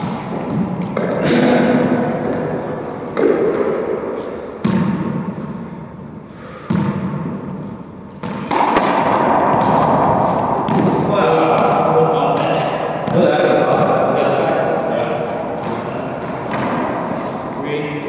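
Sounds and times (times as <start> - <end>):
racquetball hits echoing: 0.0 - 18.0.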